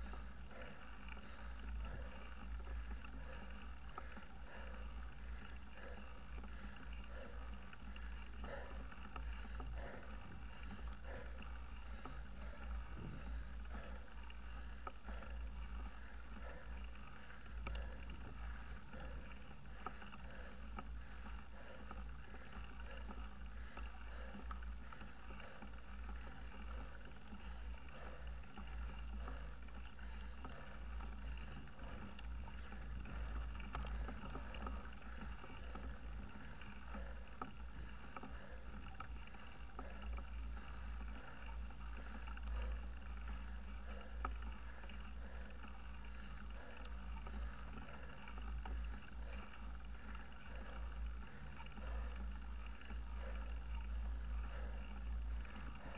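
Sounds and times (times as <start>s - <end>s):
bike rattles and clicks: 0.0s - 55.9s.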